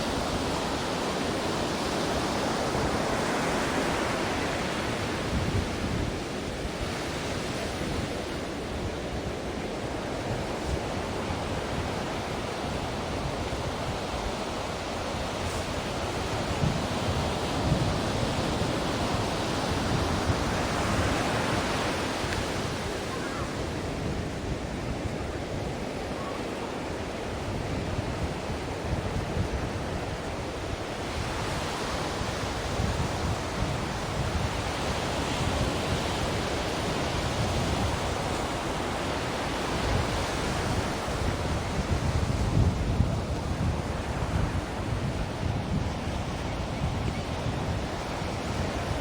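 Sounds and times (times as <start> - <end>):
ocean waves breaking: 0.0 - 49.0.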